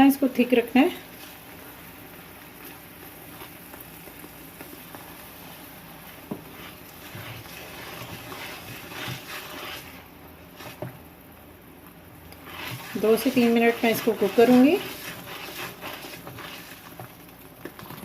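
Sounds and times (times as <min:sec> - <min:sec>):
syrup bubbling in a pan: 0:00.0 - 0:18.0.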